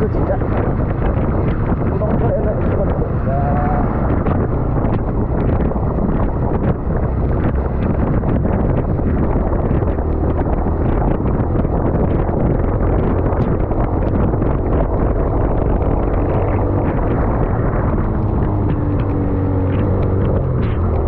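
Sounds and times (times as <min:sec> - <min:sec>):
motorcycle engine: 0:00.0 - 0:21.0
wind rushing over microphone: 0:00.0 - 0:21.0.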